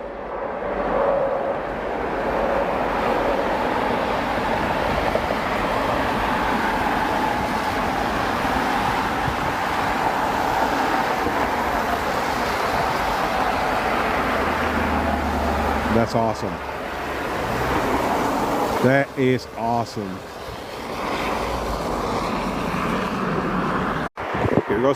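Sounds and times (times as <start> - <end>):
jet engines at takeoff: 0.0 - 24.9.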